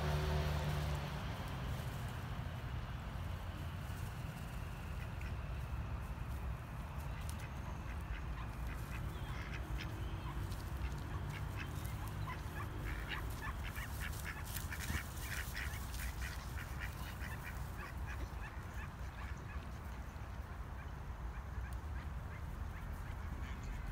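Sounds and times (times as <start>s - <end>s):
ducks quacking: 3.2s - 23.9s.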